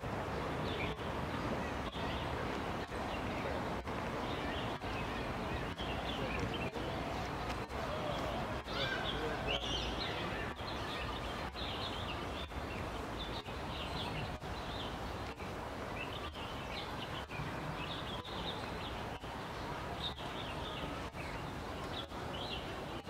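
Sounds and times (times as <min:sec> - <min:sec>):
small birds chirping: 0:00.0 - 0:23.0
wetland background noise: 0:00.0 - 0:23.0.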